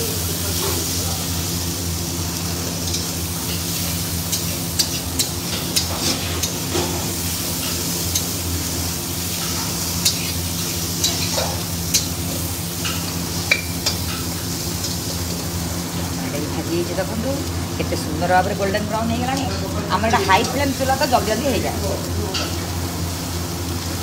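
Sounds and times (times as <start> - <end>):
prawns sizzling in hot oil: 0.0 - 24.0.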